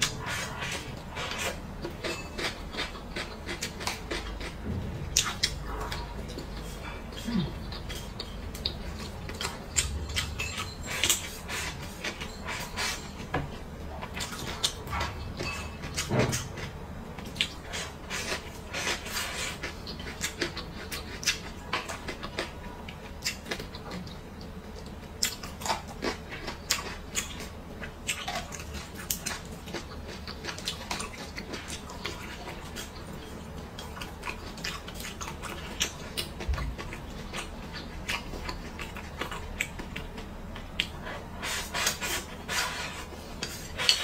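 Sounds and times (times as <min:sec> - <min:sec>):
chewing and biting: 0:00.0 - 0:13.3, 0:13.9 - 0:44.0.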